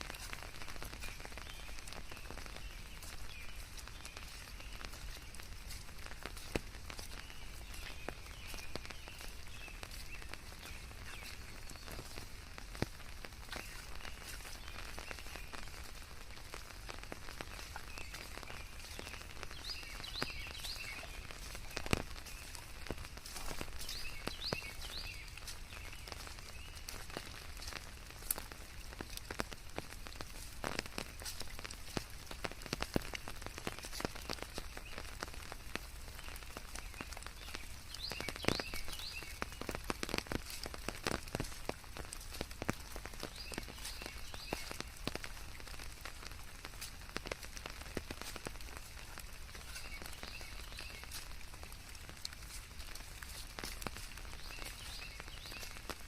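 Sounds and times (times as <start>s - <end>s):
drops ticking on leaves: 0.0s - 56.0s
forest rain: 0.0s - 56.0s.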